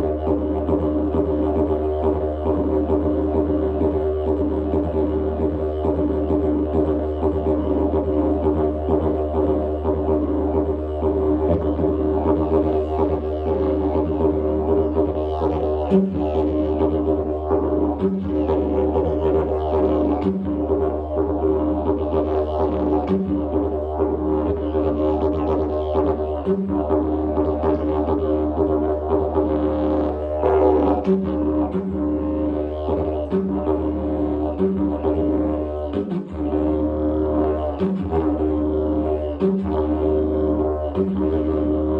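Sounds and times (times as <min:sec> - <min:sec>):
didgeridoo drone: 0:00.0 - 0:41.9.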